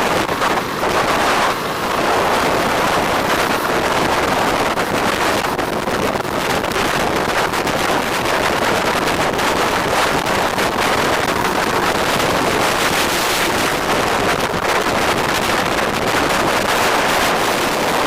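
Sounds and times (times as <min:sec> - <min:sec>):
motorcycle riding noise: 0:00.0 - 0:18.0
wind rushing over microphone: 0:00.0 - 0:18.0.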